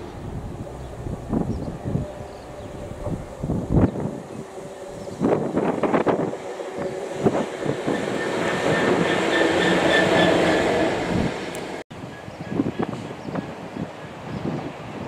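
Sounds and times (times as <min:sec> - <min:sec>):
diesel locomotive engine passing: 0:00.0 - 0:15.0
wind on microphone: 0:00.0 - 0:15.0.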